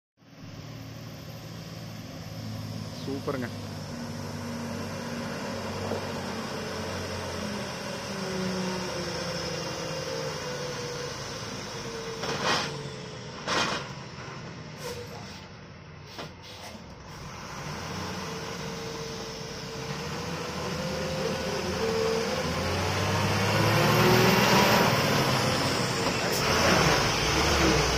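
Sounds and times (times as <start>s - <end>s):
truck diesel engine labouring: 0.2s - 27.9s
wavering axle whine: 0.3s - 14.4s, 17.2s - 27.9s.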